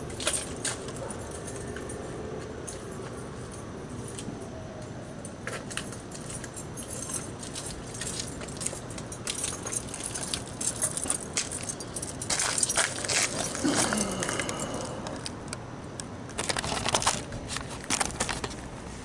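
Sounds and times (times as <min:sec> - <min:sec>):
small metallic clicks and rattles: 0:00.0 - 0:04.3, 0:05.2 - 0:18.6.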